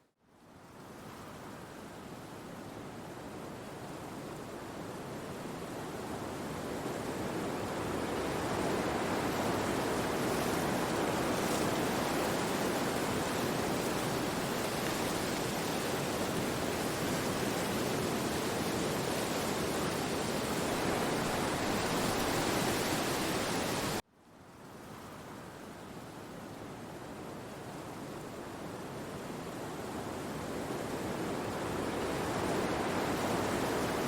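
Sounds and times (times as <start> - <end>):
wind rushing through trees: 0.1 - 34.0.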